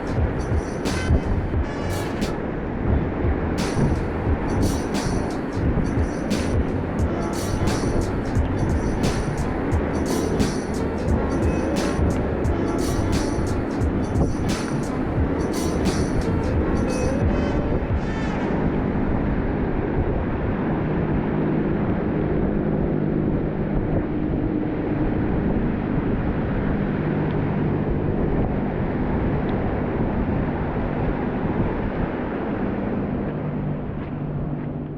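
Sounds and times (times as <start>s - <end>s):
wind rumbling on microphone: 0.0s - 34.9s.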